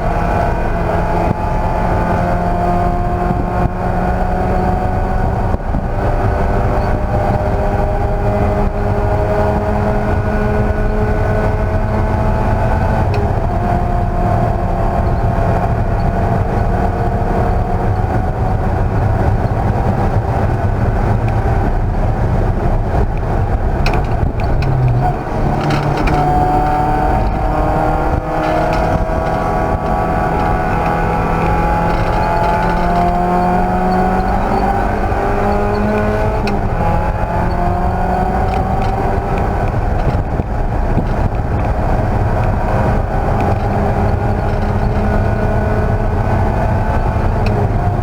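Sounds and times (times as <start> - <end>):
race car engine at high revs: 0.0 - 48.0.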